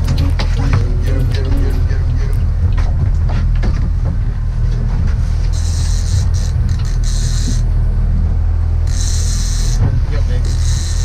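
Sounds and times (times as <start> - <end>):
outboard motor rumbling: 0.0 - 11.0.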